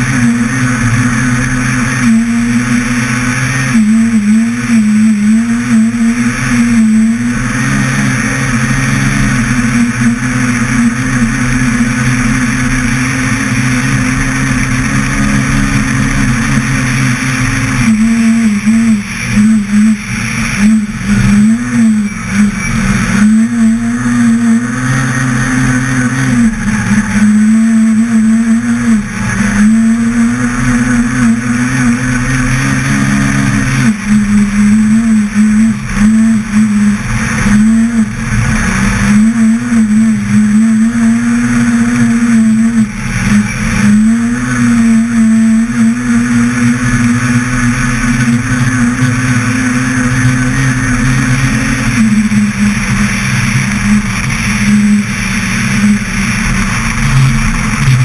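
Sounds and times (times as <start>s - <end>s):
rally car engine revving: 0.0s - 58.0s
steady rushing noise: 0.0s - 58.0s.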